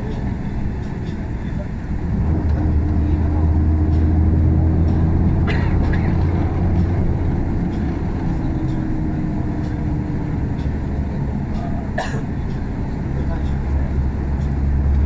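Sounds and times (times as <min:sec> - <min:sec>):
diesel bus engine drone: 0:00.0 - 0:15.0
road and tyre noise: 0:00.0 - 0:15.0.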